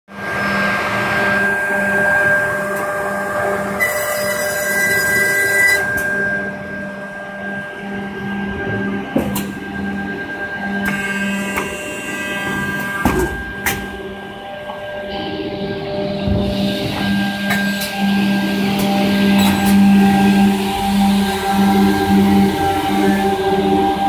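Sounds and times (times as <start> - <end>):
machine motor hum and whine: 0.1 - 24.0.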